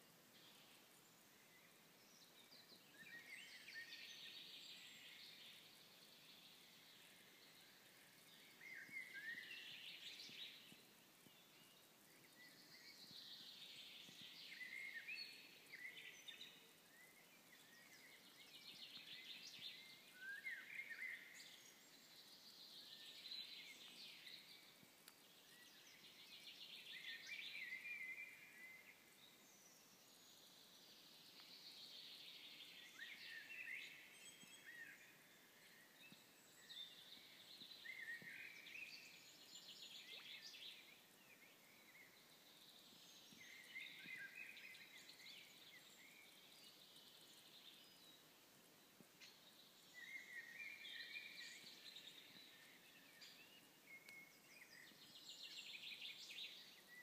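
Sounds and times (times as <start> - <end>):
faint songbird singing: 0.0 - 57.0.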